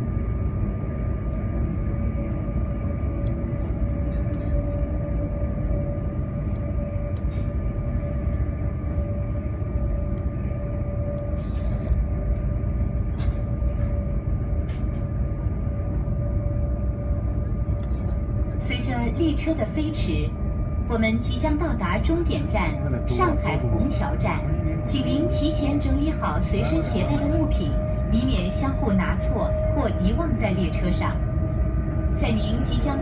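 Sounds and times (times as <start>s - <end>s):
train cabin rumble: 0.0s - 33.0s.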